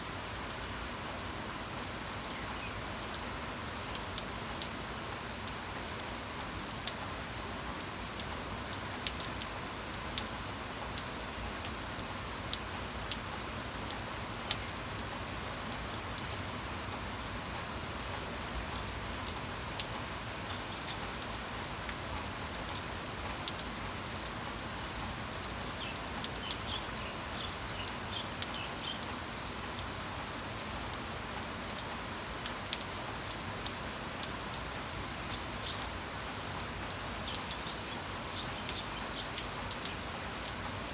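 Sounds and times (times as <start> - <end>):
rain drops ticking: 0.0 - 40.9.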